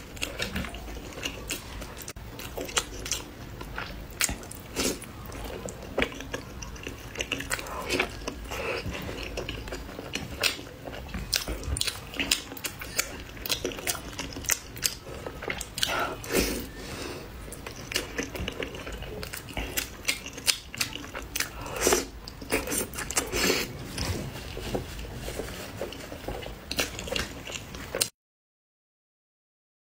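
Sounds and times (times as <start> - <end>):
wet chewing and biting: 0.0 - 16.8, 17.4 - 28.1.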